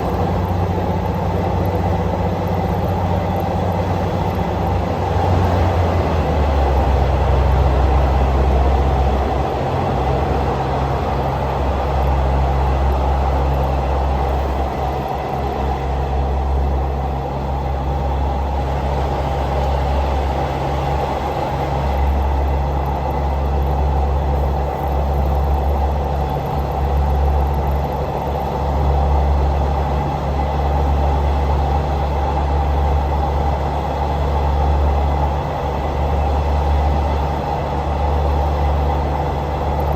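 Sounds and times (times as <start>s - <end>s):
continuous rushing noise: 0.0s - 39.9s
train running drone: 0.0s - 39.9s.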